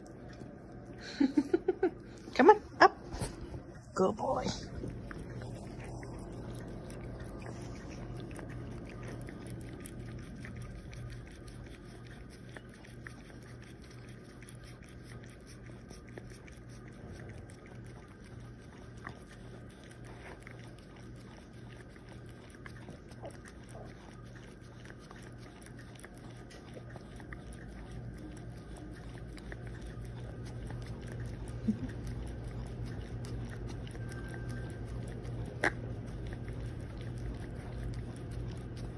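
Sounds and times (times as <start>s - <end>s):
dog licking and lapping: 0.0s - 38.9s
low hum: 0.0s - 38.9s.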